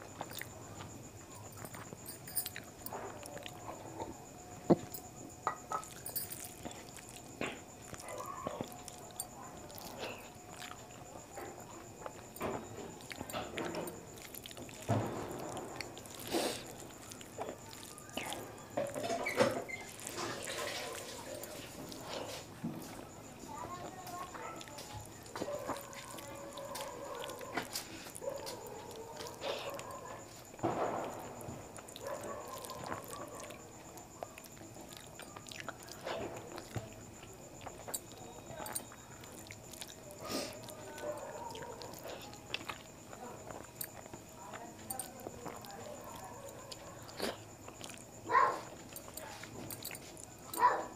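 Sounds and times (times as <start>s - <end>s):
chewing food: 0.0s - 50.9s.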